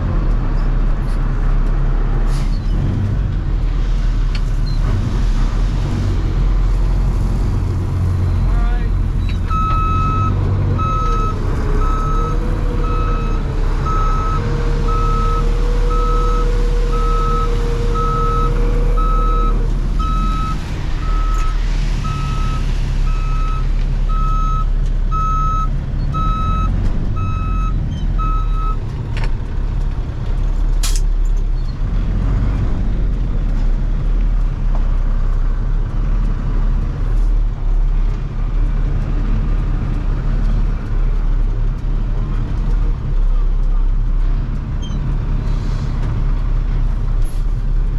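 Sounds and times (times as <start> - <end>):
truck engine running: 3.0 - 47.9.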